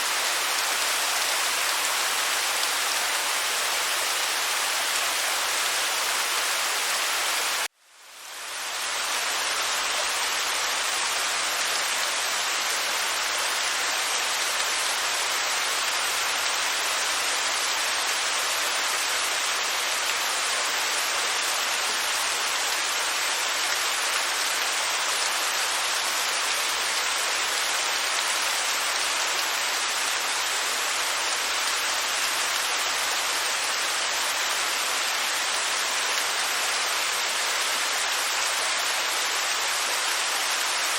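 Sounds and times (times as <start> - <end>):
waterfall rushing: 0.0 - 7.7, 8.5 - 40.9.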